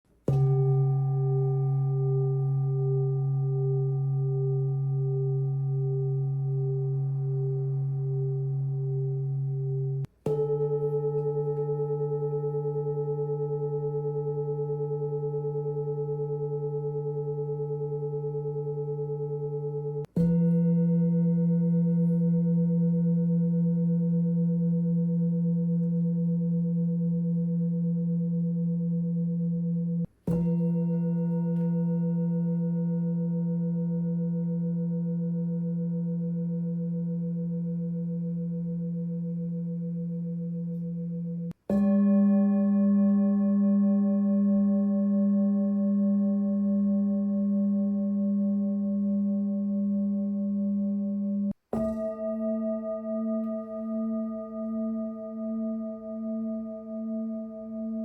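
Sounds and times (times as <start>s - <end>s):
singing bowl ringing: 0.3s - 58.0s.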